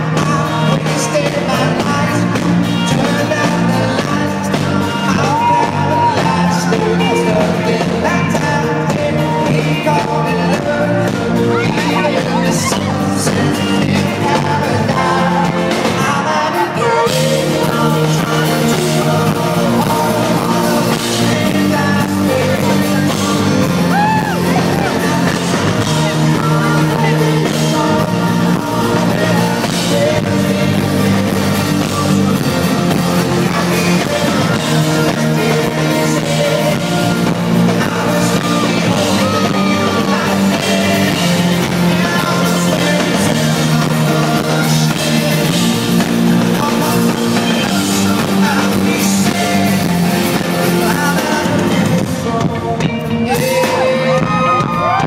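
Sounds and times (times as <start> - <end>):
male lead vocal: 0.0 - 55.0
pop-rock band playing live: 0.0 - 55.0.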